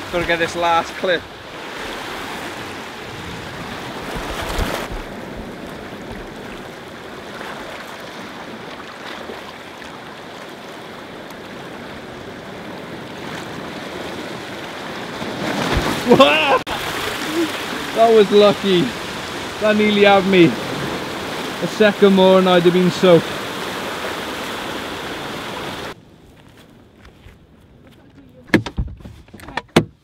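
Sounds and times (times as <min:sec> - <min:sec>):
sea surf on rocks: 0:00.0 - 0:26.0.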